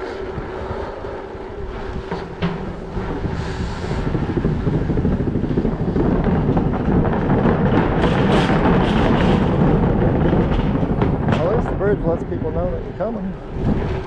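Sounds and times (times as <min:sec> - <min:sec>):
bicycle tyres rumbling on planks: 0:00.0 - 0:14.0.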